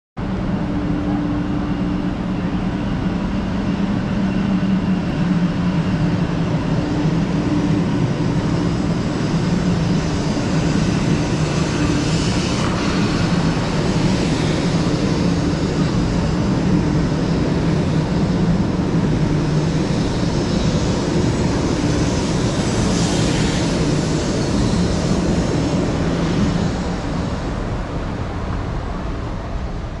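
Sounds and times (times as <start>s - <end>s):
electric train low hum: 0.2s - 30.0s
train rushing past: 0.2s - 30.0s.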